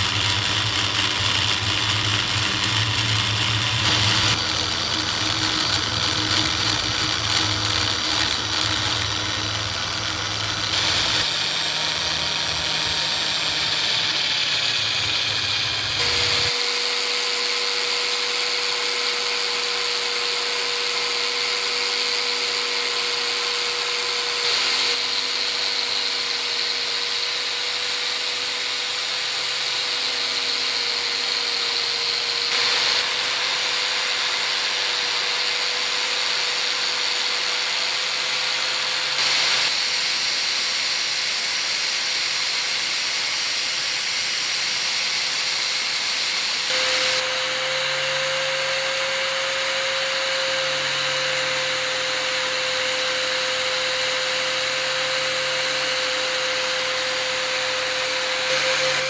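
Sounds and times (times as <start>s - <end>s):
electric power tool running: 0.0s - 59.0s.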